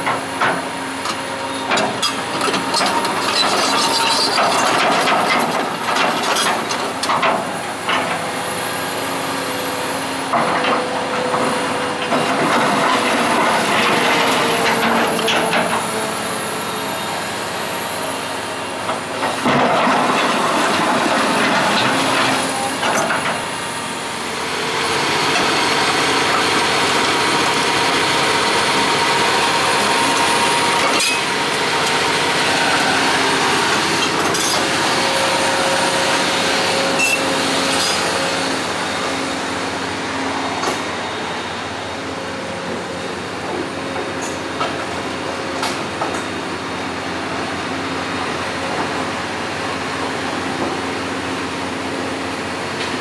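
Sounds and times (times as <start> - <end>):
excavator diesel engine running: 0.0 - 53.0
steel tracks clanking: 0.0 - 53.0.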